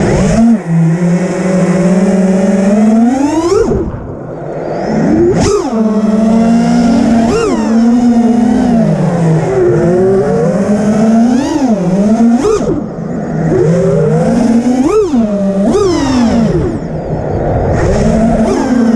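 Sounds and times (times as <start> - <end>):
quadcopter motors whining: 0.0 - 18.9.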